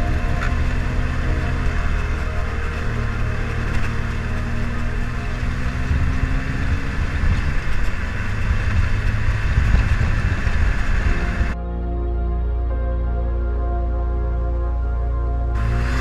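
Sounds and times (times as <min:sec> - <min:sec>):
background music: 0:00.0 - 0:16.0
car engine and road noise: 0:00.0 - 0:16.0.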